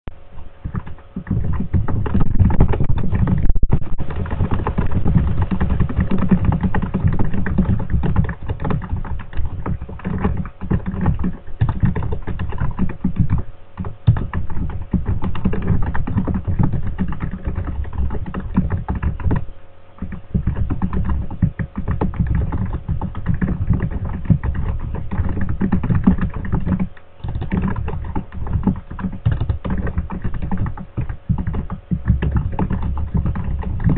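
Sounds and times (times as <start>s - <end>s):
fast typing on a keyboard: 0.6s - 33.9s.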